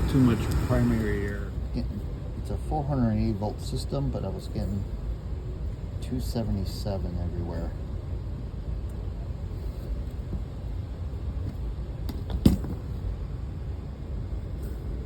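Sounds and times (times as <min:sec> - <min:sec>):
air rumbling through ductwork: 0:00.0 - 0:15.0.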